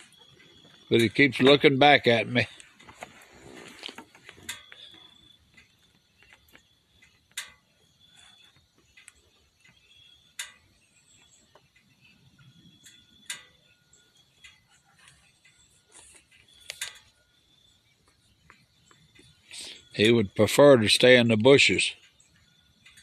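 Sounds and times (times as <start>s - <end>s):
faint high steady tone: 0.0s - 23.0s.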